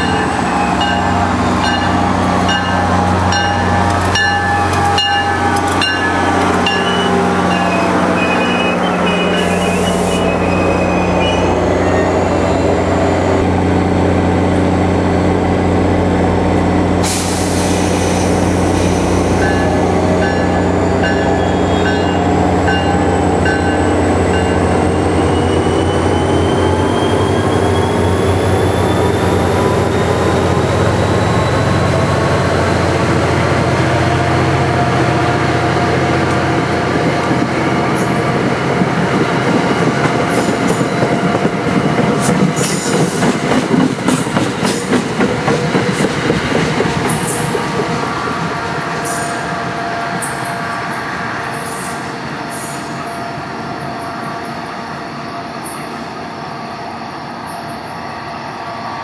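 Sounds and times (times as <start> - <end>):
train rolling: 0.0 - 59.0.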